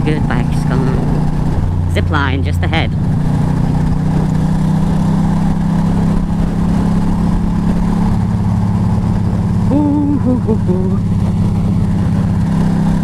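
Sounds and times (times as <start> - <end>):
motorcycle engine cruising: 0.0 - 13.0
wind noise on microphone: 0.0 - 13.0.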